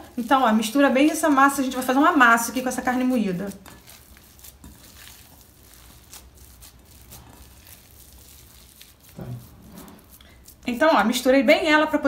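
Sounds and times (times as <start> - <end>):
hands kneading raw meat: 0.0 - 12.0.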